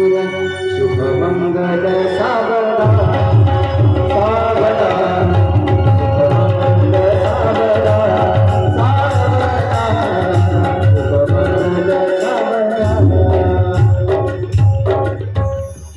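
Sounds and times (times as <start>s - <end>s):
tabla drumming: 2.0s - 15.9s.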